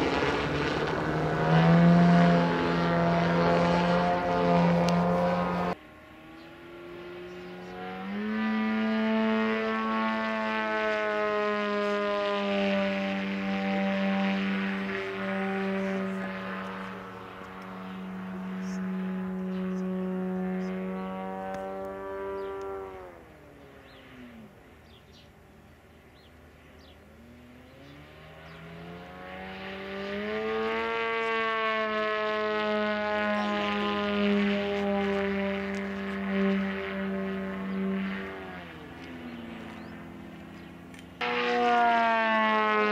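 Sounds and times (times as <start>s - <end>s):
droning tone with overtones: 0.0s - 25.0s, 26.1s - 42.9s
model airplane engine running: 0.0s - 42.9s.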